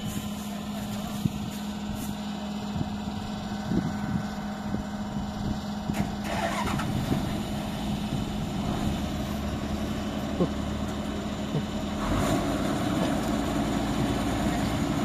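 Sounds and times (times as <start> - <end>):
diesel engines humming: 0.0 - 15.0.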